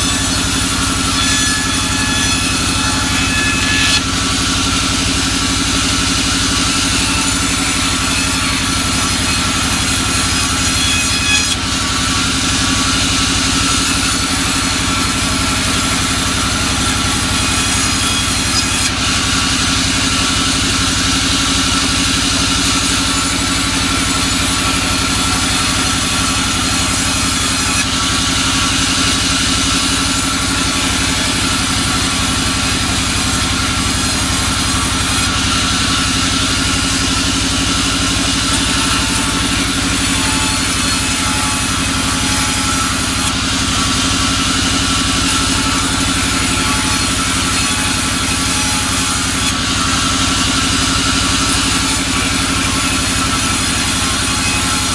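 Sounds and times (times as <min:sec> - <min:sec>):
bandsaw mill hum: 0:00.0 - 0:54.9.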